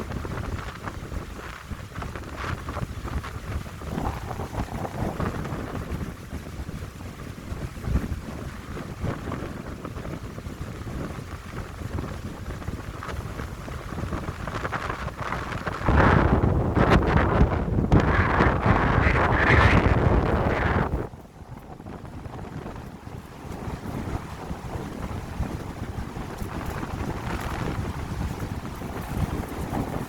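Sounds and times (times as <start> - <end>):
wind buffeting microphone: 0.0 - 30.0
wind gusting through pines: 0.0 - 30.0.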